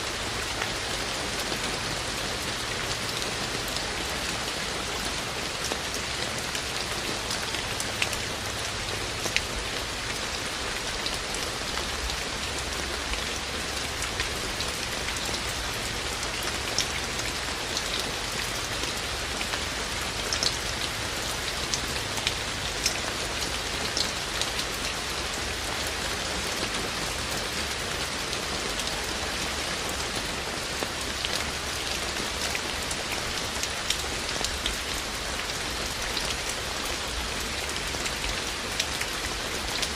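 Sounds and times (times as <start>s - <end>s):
rain drops ticking on hard surface: 0.0s - 39.9s.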